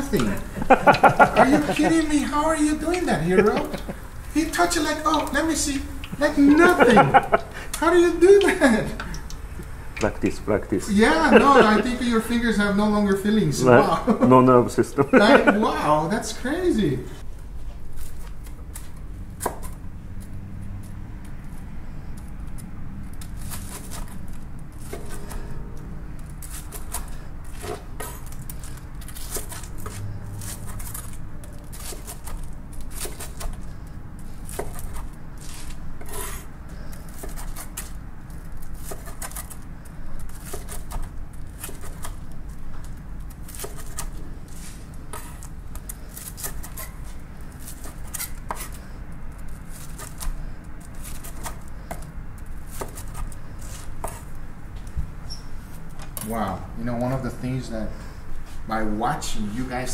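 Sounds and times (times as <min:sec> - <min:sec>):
steady low hum: 0:00.0 - 0:59.6.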